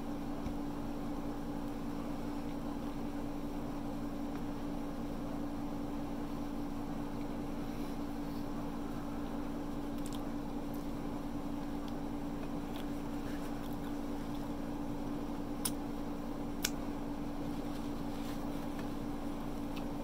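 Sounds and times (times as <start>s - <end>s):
room noise hum and hiss: 0.0s - 20.0s.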